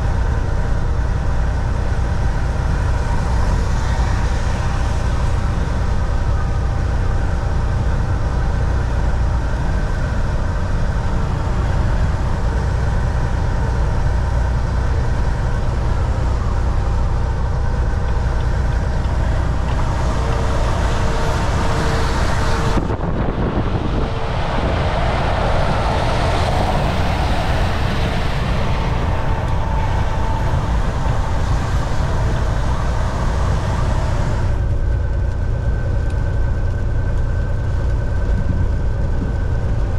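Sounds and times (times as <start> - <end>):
rushing noise: 0.0 - 35.4
road rumble: 0.0 - 39.9
truck engine drone: 0.0 - 39.9
faint whines: 0.3 - 36.0.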